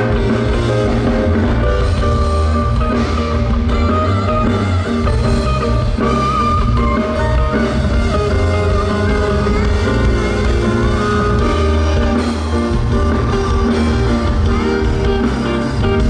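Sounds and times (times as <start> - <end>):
guitar: 0.0 - 16.0
live instrumental band music: 0.0 - 16.0.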